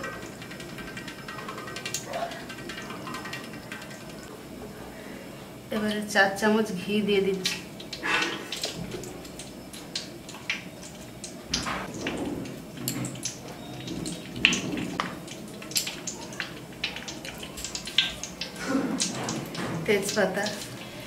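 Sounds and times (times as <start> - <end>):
oil sizzling and crackling: 0.0 - 4.8, 7.0 - 21.0.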